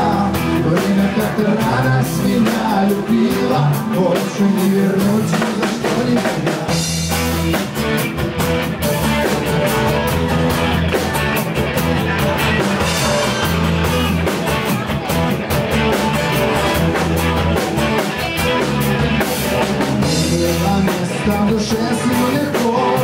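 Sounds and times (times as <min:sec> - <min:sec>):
live rock band instrumental: 0:00.0 - 0:23.0.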